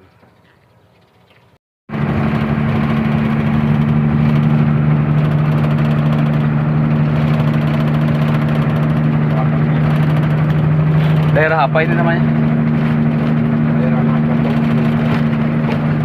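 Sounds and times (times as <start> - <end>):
truck engine running: 1.9 - 16.0.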